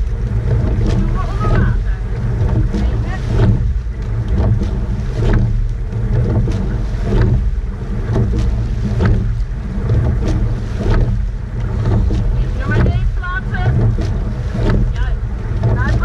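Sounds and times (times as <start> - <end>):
oars clunking and splashing: 0.0 - 16.0
water rushing past hull: 0.0 - 16.0
wind rumble on microphone: 0.0 - 16.0.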